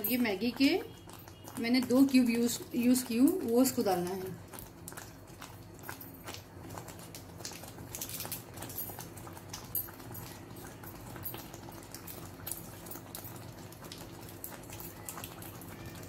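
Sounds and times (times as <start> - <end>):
porridge bubbles popping: 0.0 - 16.0.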